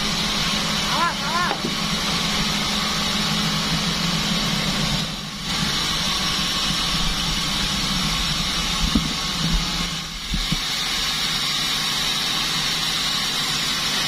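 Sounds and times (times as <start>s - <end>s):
band sawmill sawing wood: 0.0s - 14.0s.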